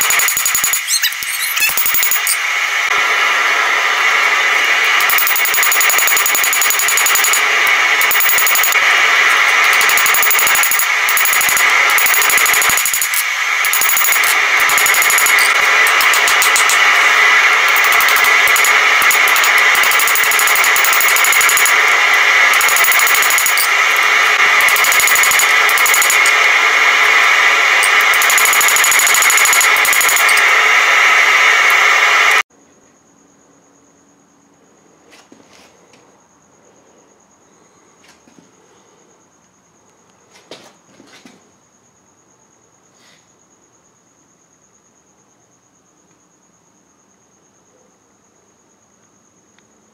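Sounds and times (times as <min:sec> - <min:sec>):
faint hum: 0:00.0 - 0:49.9.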